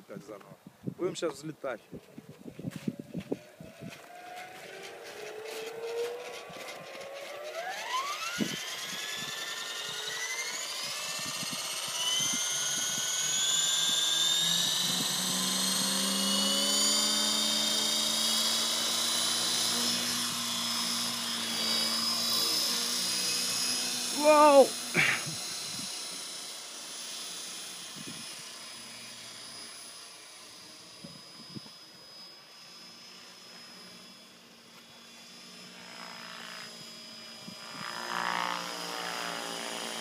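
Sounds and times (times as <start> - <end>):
model helicopter rotor whine: 1.2 - 40.0.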